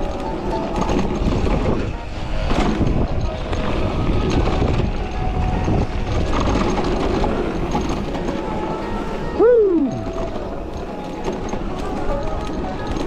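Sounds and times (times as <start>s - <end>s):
mountain bike rumble and rattle: 0.0s - 13.0s
wind buffeting microphone: 0.0s - 13.0s.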